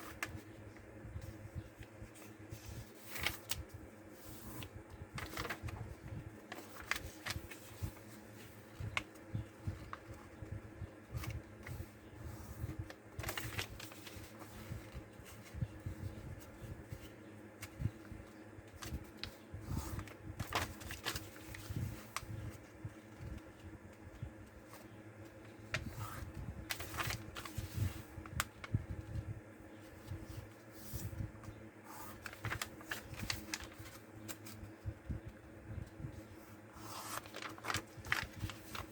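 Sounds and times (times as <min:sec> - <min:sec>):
paper folding and rustling: 0:00.0 - 0:35.4, 0:36.0 - 0:38.9.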